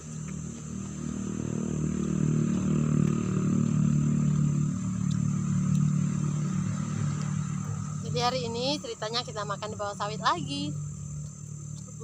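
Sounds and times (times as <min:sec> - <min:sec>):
high insect drone: 0:00.0 - 0:12.0
motorcycle engine approaching: 0:00.0 - 0:12.0.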